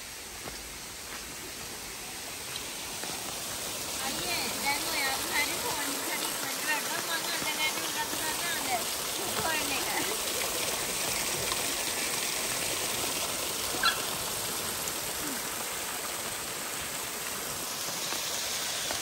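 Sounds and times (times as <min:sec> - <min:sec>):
water rushing over a weir: 0:00.0 - 0:19.0.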